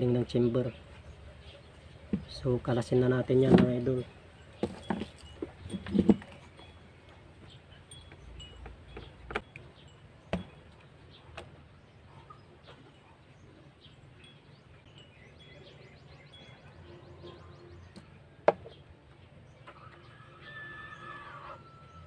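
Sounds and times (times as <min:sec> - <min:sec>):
faint bird chirps: 0:03.9 - 0:22.0.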